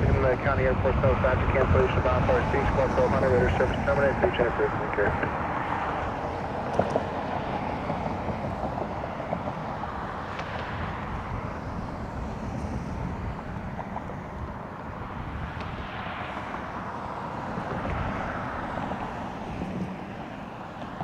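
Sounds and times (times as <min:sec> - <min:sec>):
jet engines rumbling: 0:00.0 - 0:21.0
wind on microphone: 0:00.0 - 0:21.0.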